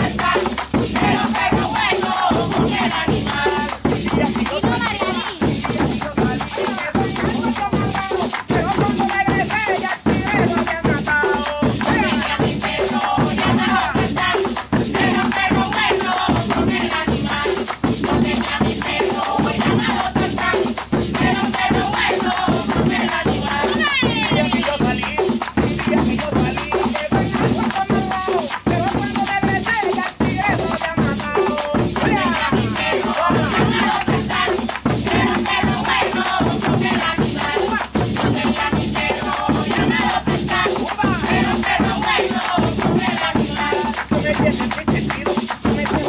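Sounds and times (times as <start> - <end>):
hand drum: 0.0 - 46.0
maracas shaking: 0.0 - 46.0
people clapping in time: 0.0 - 46.0
voices singing: 0.0 - 46.0.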